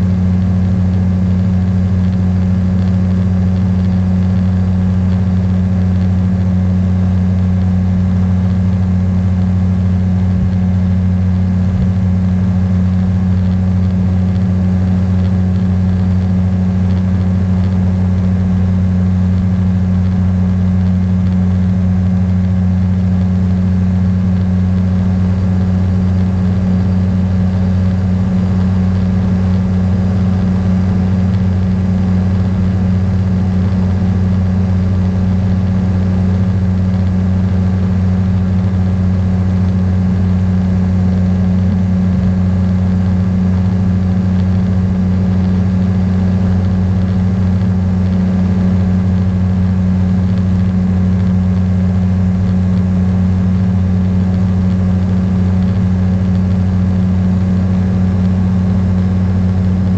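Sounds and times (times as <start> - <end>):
ultralight engine and propeller drone: 0.0 - 59.9.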